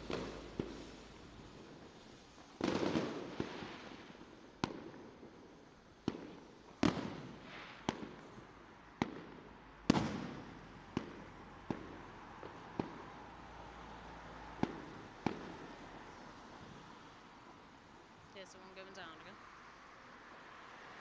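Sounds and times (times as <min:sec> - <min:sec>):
fireworks bangs and cracks: 0:00.0 - 0:18.9.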